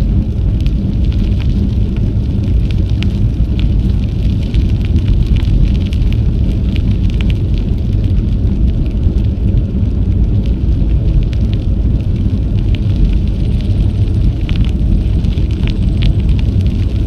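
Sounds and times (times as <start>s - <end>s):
small crackles: 0.0s - 17.0s
wind buffeting microphone: 0.0s - 17.0s.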